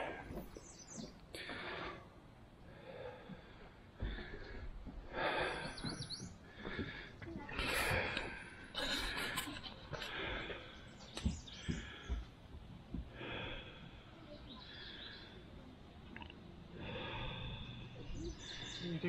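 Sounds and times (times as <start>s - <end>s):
person breathing hard: 1.3s - 15.4s, 16.8s - 18.8s.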